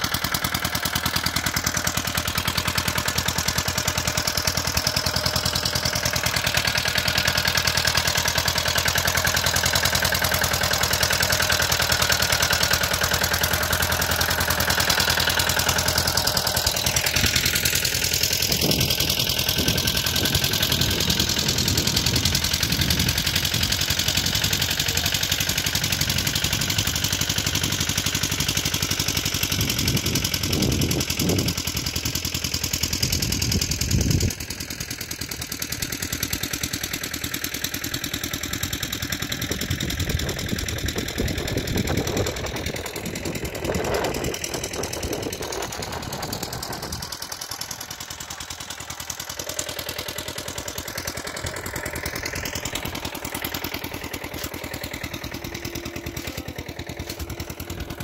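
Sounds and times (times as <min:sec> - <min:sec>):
two-wheel tractor engine running: 0:00.0 - 0:58.0.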